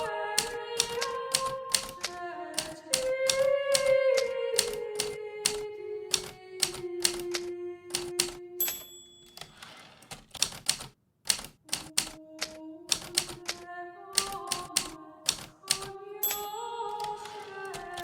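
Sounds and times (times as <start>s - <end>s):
typewriter keys striking: 0.0s - 13.6s, 14.2s - 18.0s.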